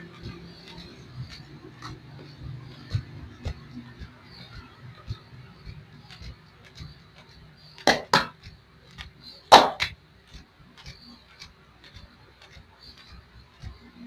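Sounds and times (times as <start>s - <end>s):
hands slapping on skin: 0.1s - 14.0s.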